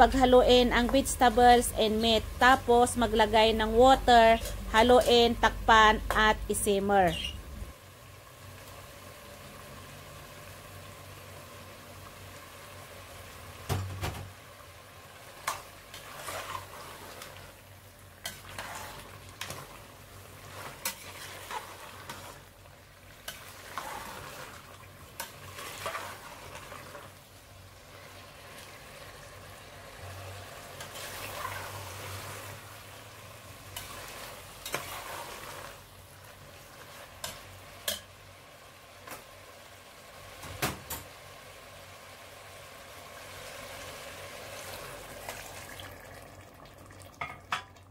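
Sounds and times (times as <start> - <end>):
food sizzling faintly: 0.0 - 47.6.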